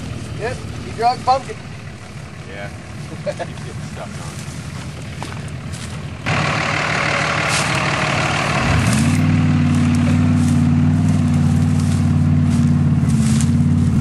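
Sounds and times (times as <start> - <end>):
diesel truck engine revving: 0.0 - 14.0.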